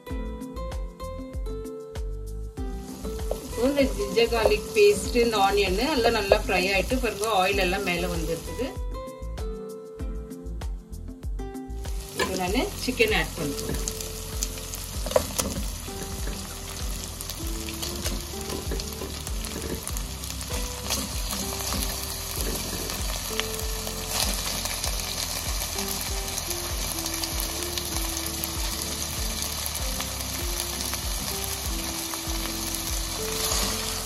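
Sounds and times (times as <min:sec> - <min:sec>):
background music with bass beat: 0:00.0 - 0:04.4, 0:08.7 - 0:34.0
chicken sizzling in hot oil: 0:02.6 - 0:08.8, 0:11.8 - 0:34.0.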